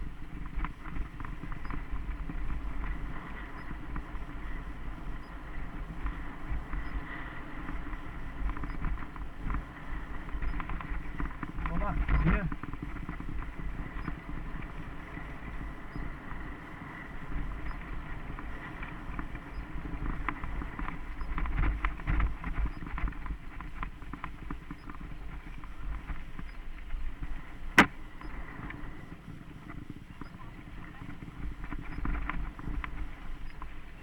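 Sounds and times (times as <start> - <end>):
bike rattling over bumps: 0.0 - 34.0
mountain bike rolling on dirt: 0.0 - 34.0.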